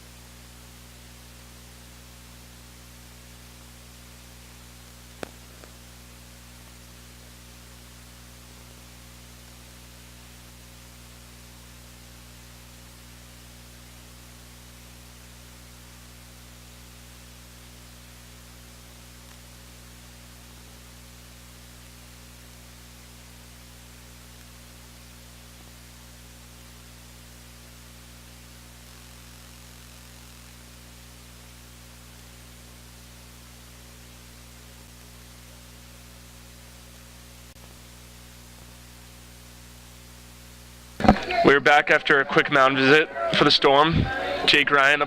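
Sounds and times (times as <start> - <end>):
constant hiss: 0.0 - 45.0
electrical mains hum: 0.0 - 45.0.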